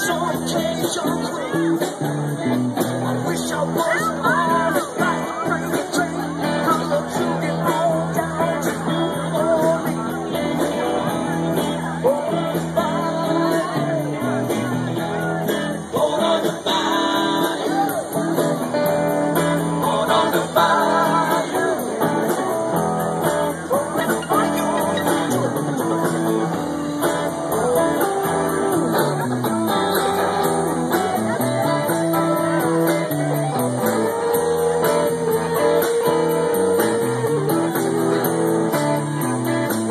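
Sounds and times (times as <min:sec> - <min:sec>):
bass guitar: 0:00.0 - 0:39.9
electric guitars: 0:00.0 - 0:39.9
person singing: 0:03.0 - 0:39.1.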